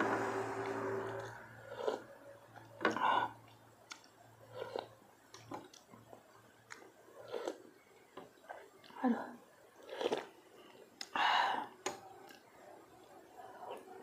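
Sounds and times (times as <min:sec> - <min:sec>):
person chewing with wet mouth sounds: 0:01.1 - 0:09.0, 0:09.7 - 0:14.0.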